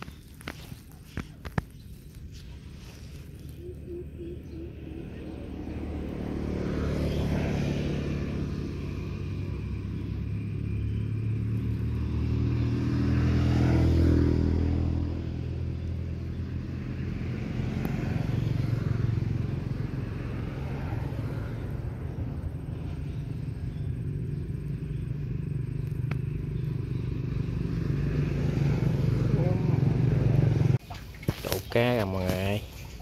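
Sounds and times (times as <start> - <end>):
vehicles passing: 0.0 - 33.0.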